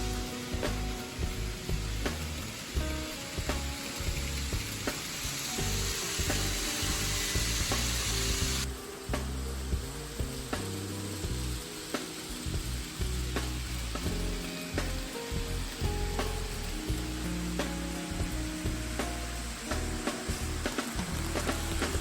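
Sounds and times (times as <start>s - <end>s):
background music: 0.0s - 22.0s
model trains hissing: 0.0s - 22.0s.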